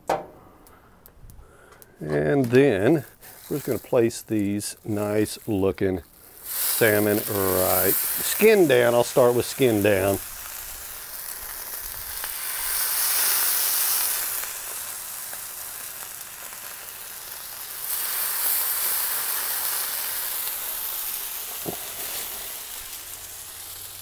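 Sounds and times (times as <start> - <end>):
fish sizzling on griddle: 3.0 - 24.0.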